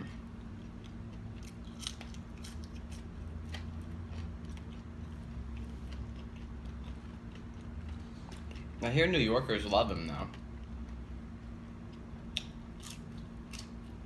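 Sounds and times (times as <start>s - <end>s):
chewing fries: 0.0s - 14.0s
steady low hum: 0.0s - 14.0s.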